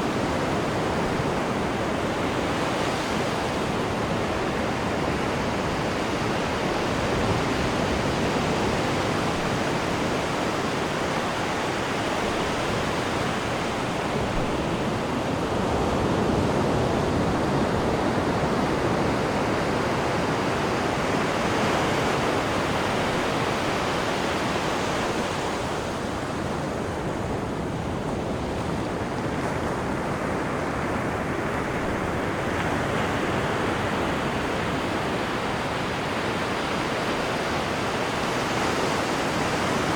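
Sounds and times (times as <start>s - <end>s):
sea water churning in ship wake: 0.0s - 39.9s.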